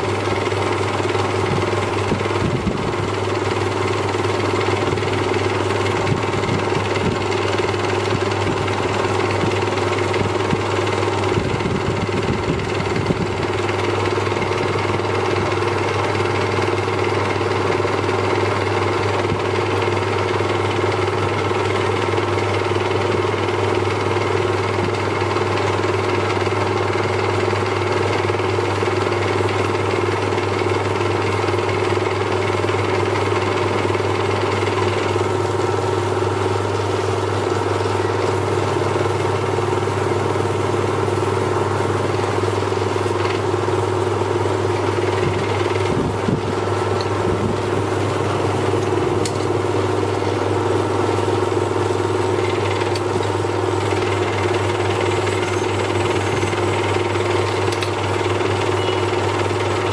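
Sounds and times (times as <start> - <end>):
lathe humming: 0.0 - 59.9.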